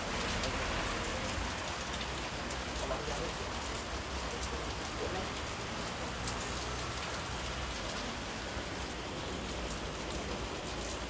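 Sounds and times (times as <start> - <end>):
heavy rain on a street: 0.0 - 11.0
raindrop ticks: 0.1 - 11.0.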